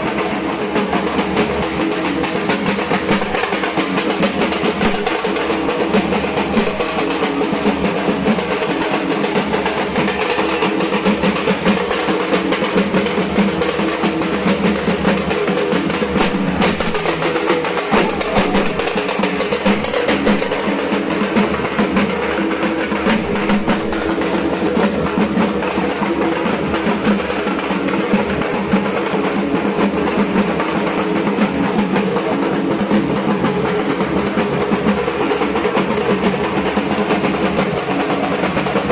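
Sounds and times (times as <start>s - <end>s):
barrel drum roll with sticks: 0.0s - 38.9s.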